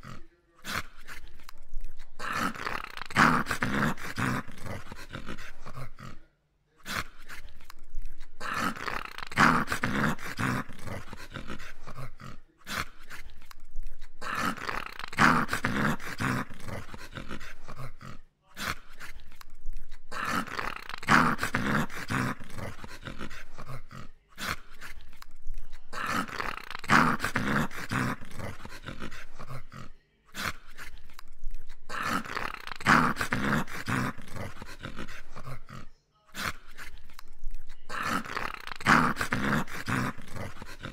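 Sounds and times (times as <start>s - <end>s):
dog grumbling: 0.0s - 40.9s.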